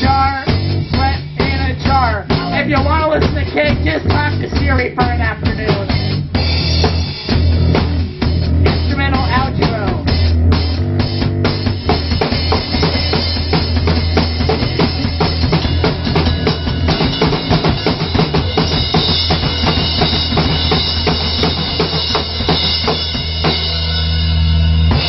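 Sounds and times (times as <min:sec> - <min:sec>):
drum kit pounding: 0:00.0 - 0:25.0
low bass: 0:00.0 - 0:25.0.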